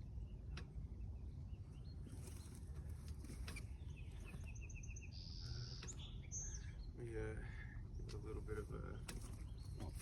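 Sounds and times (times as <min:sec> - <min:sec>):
faint bird chirps: 0:00.2 - 0:10.0.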